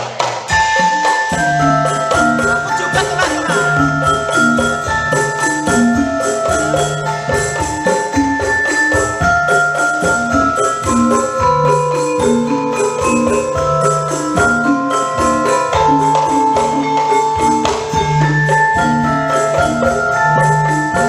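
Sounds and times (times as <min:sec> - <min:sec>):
instrumental music with steady beat: 0:00.0 - 0:21.0.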